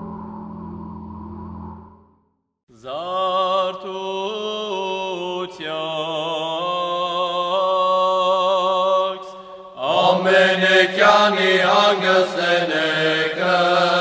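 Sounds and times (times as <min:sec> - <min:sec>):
person chanting: 0:02.7 - 0:14.0.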